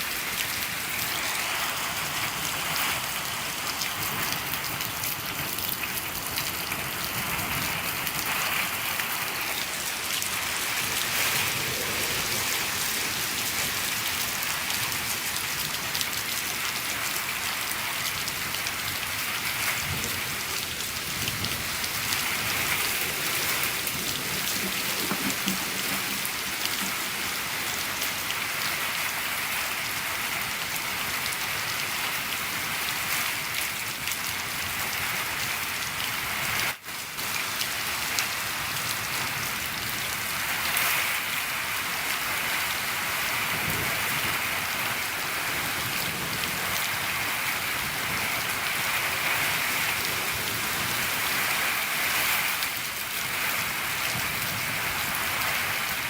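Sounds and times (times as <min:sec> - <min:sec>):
rain pattering on a shed: 0:00.0 - 0:56.0.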